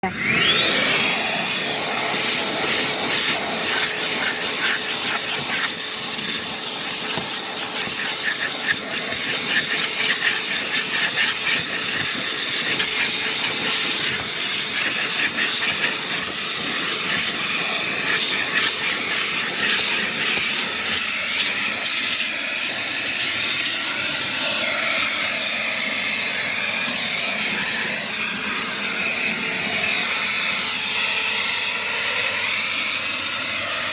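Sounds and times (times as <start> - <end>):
stick vacuum running: 0.0 - 31.3.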